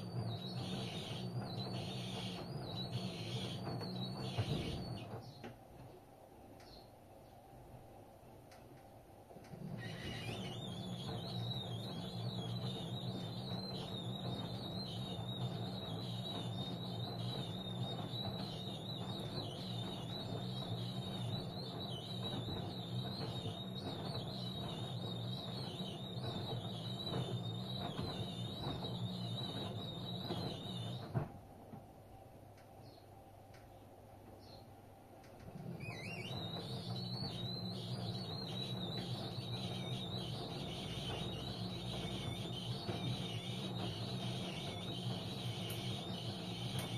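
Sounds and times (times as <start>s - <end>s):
high wavering whine: 0.0s - 5.2s, 9.5s - 31.3s, 35.6s - 46.9s
washing machine hum: 0.0s - 46.9s.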